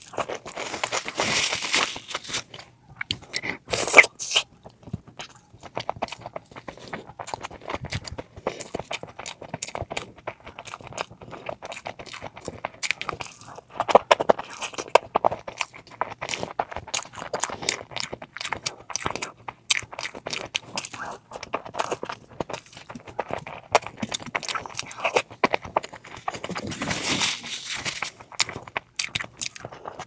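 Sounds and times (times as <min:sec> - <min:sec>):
chewing and mouth smacks: 0:00.0 - 0:30.0.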